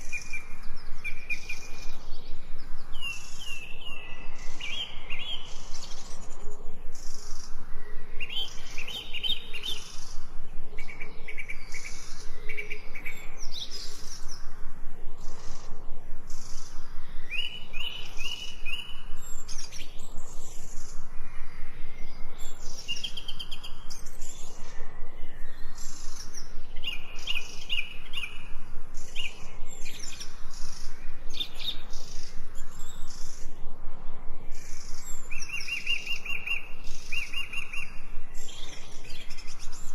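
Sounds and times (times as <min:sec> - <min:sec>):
birds chirping and singing: 0:00.0 - 0:33.7, 0:34.4 - 0:39.9.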